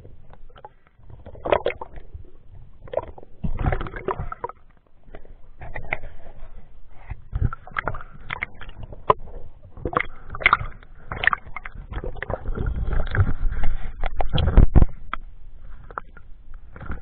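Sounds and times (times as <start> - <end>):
underwater clicks and knocks: 0.0 - 17.0
underwater rumble of water: 0.0 - 17.0.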